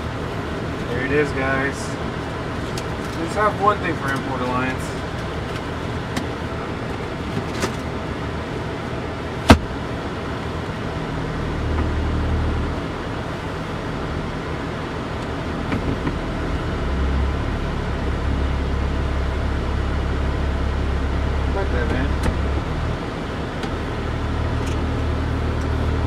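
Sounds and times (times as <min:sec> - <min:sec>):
low car hum: 0:00.0 - 0:26.0.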